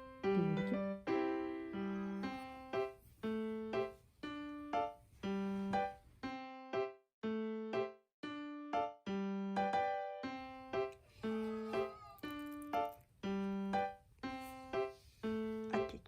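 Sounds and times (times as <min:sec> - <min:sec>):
keyboard chords: 0:00.0 - 0:16.0.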